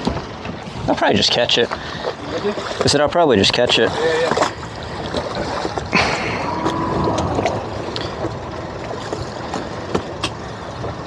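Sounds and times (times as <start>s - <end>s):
water lapping against boat hulls: 0.0s - 11.0s.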